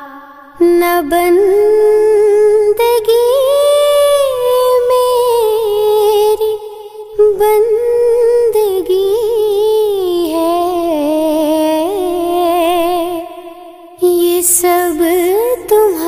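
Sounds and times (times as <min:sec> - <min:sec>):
slow vocal melody: 0:00.0 - 0:16.0.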